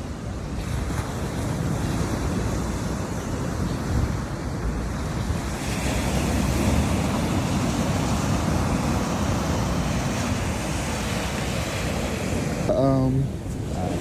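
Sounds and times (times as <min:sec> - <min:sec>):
ocean surf washing ashore: 0:00.0 - 0:14.0
wind buffeting microphone: 0:00.0 - 0:14.0.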